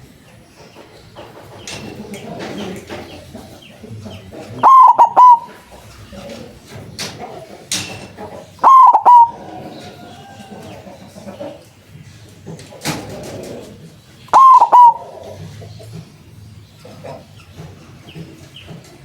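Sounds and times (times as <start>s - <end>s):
dove cooing: 1.6s - 11.9s, 12.5s - 18.7s.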